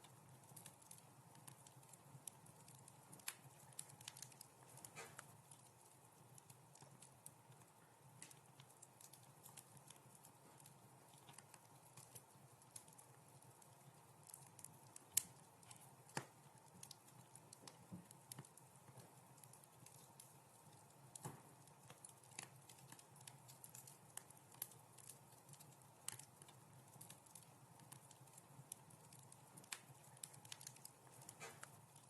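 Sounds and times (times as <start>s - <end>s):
faint steady hiss: 0.0s - 32.0s
wood fire crackling: 0.0s - 32.0s.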